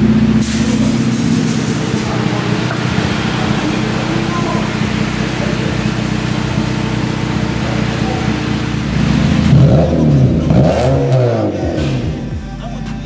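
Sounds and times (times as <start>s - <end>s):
car engine revving through loud exhaust: 0.0s - 12.4s.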